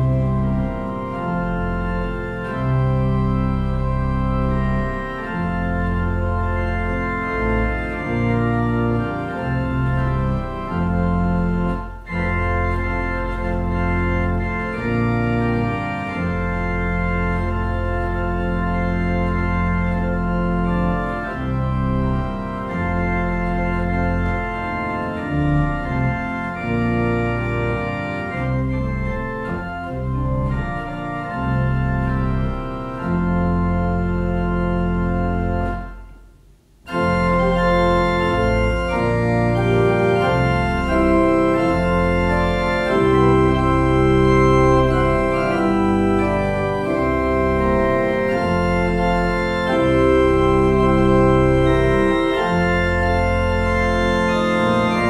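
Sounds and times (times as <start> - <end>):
church organ playing hymn: 0.0 - 55.0.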